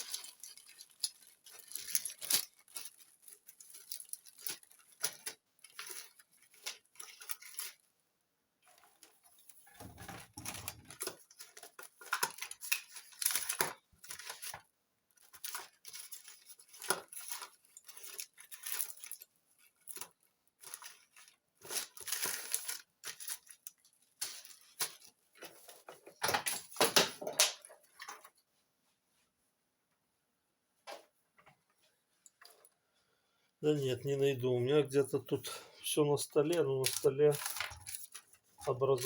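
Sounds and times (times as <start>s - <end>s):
plastic bags crinkling: 0.0s - 7.9s, 8.6s - 28.4s, 33.7s - 39.0s
small objects clattering: 0.0s - 7.9s, 8.6s - 28.4s, 33.8s - 39.0s.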